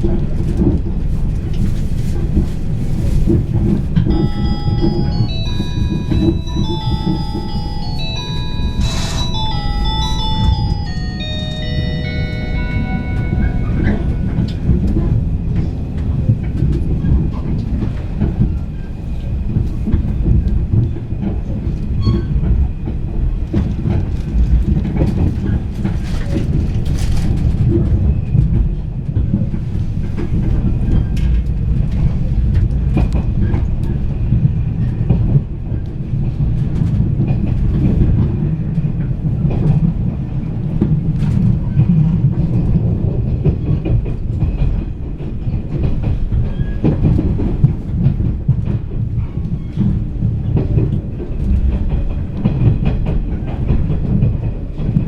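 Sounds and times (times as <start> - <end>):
train rumbling from inside: 0.0 - 55.0
wheels clicking over rail joints: 0.0 - 55.0.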